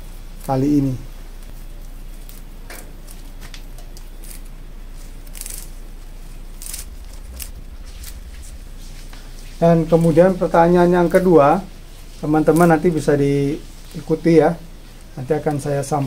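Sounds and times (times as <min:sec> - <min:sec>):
leaves and twigs rustling: 0:00.0 - 0:16.0
low background hum: 0:00.0 - 0:16.0.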